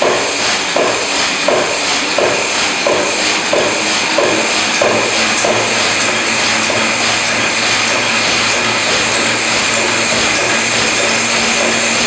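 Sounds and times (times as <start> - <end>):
steam hissing loudly: 0.0 - 12.0.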